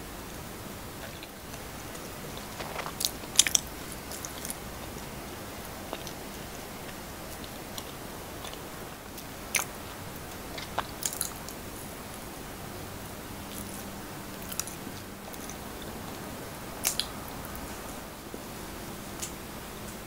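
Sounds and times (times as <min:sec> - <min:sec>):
steady low hiss: 0:00.0 - 0:20.0
crisp crust crackles: 0:00.9 - 0:18.2
biting and chewing: 0:01.0 - 0:12.3, 0:12.9 - 0:18.0.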